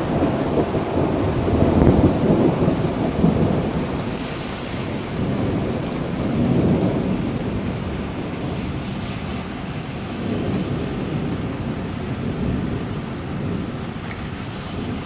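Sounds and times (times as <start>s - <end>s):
rain hiss: 0.0s - 15.0s
rolling thunder: 0.0s - 15.0s.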